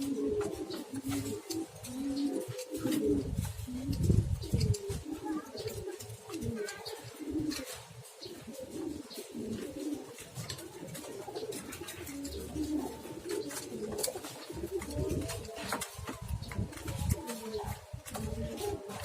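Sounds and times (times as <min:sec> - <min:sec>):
pigeon cooing: 0:00.0 - 0:19.0.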